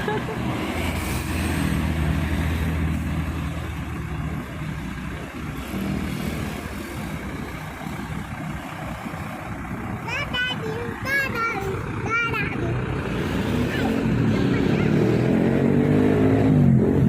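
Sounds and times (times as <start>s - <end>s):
large vehicle engine running: 0.0s - 17.0s
traffic rumble: 0.0s - 17.0s.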